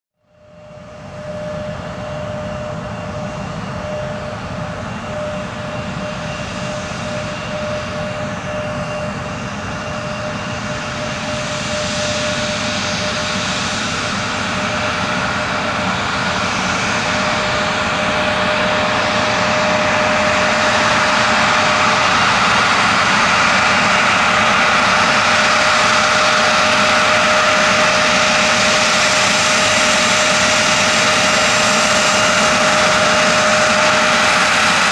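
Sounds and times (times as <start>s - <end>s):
jet engines whining: 0.4s - 34.9s.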